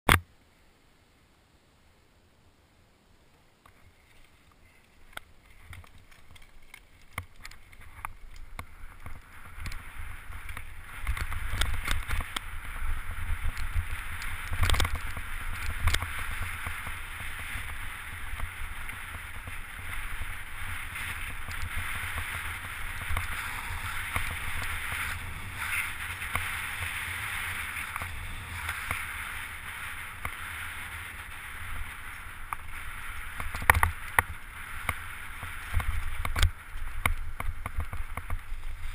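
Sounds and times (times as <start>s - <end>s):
bike knocking and rattling: 3.7s - 38.9s
tyres rolling over loose stones: 4.0s - 38.9s.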